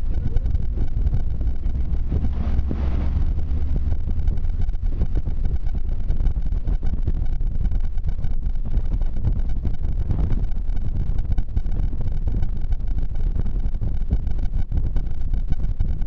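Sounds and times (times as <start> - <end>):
vehicle engine and tyres on gravel: 0.0 - 16.0.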